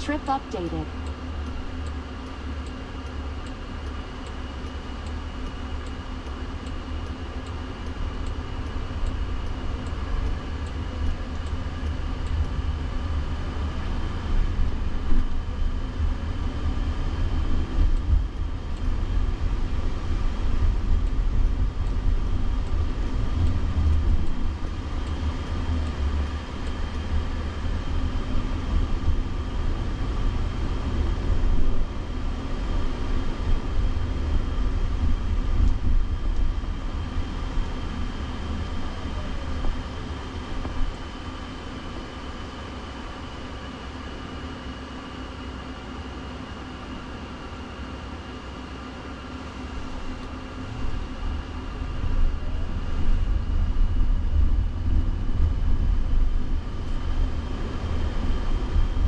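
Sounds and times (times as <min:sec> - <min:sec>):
road and tyre noise in car: 0:00.0 - 0:59.0.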